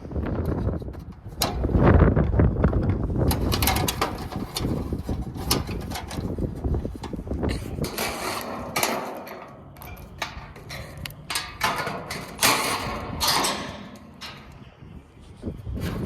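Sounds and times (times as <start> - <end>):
scraping: 0.6 - 16.0.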